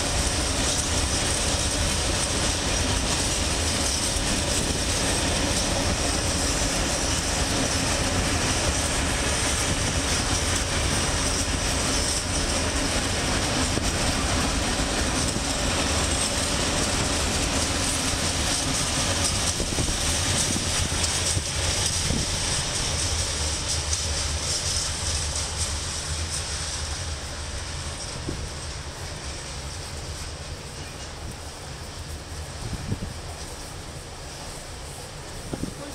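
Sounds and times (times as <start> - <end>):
freight train wheels rumbling on rails: 0.0 - 35.9.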